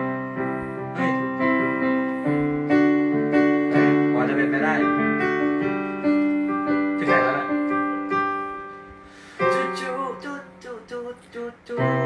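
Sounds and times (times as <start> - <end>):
electronic keyboard piano chords: 0.0 - 12.0.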